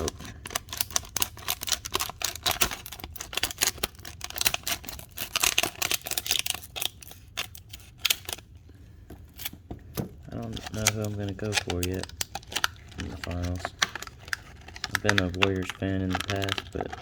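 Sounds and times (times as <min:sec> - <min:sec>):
plastic packaging crackling: 0:00.0 - 0:17.0.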